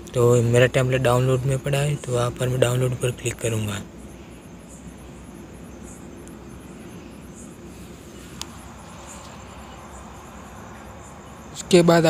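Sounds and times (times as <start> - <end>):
high insect chirping: 0.0 - 12.0
low background hum: 0.0 - 12.0.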